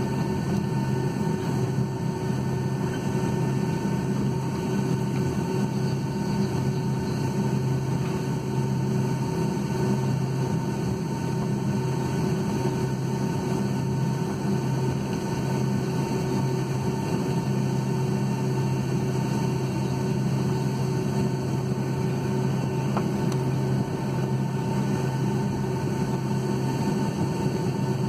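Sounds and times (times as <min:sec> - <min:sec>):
aircraft cabin engine rush: 0:00.0 - 0:28.0.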